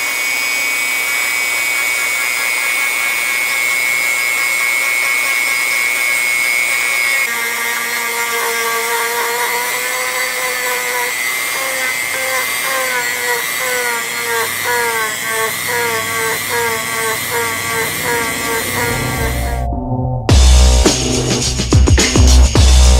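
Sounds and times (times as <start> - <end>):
power tool motor whining: 0.0 - 19.6.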